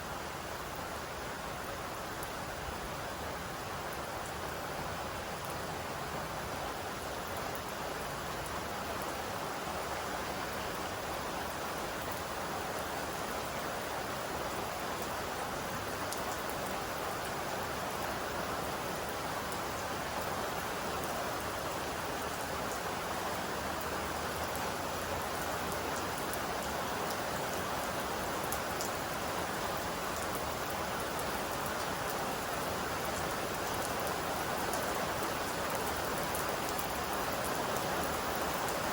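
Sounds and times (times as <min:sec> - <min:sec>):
steady rain hiss: 0:00.0 - 0:38.9
raindrops pattering on surfaces: 0:01.6 - 0:38.9.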